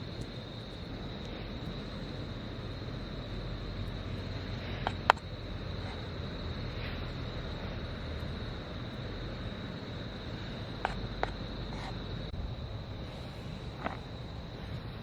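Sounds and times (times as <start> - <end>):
campfire hissing: 0.0 - 15.0
campfire pops: 0.0 - 15.0.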